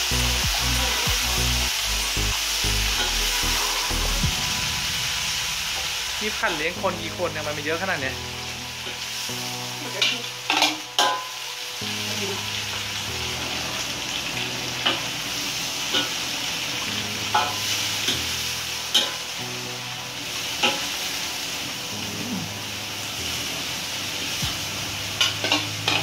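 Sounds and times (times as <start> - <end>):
vegetables sizzling in a wok: 0.0 - 26.0.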